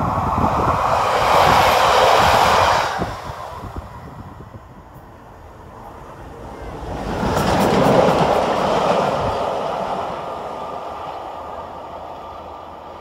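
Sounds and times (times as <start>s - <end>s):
steam locomotive passing: 0.0s - 13.0s.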